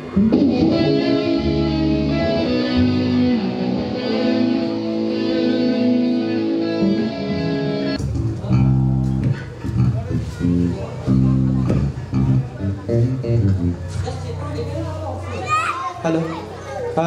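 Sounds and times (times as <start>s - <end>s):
low bass line: 0.0s - 15.3s
instrumental melody with held notes: 0.2s - 9.3s, 10.0s - 15.2s.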